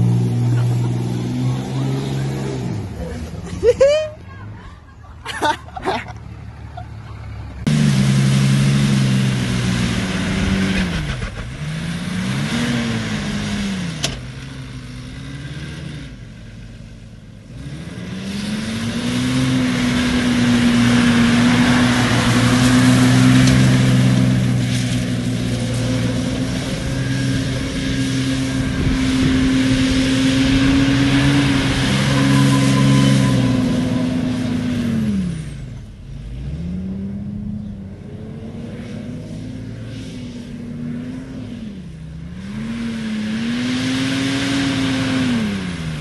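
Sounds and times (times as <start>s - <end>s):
diesel engine revving: 0.0s - 4.1s, 5.8s - 46.0s.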